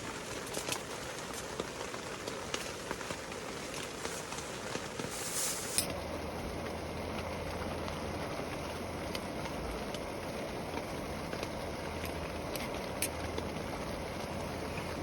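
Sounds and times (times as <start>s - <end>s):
dripping water ticks: 0.0s - 15.0s
low steady hum: 0.0s - 15.0s
rain falling: 0.0s - 15.0s.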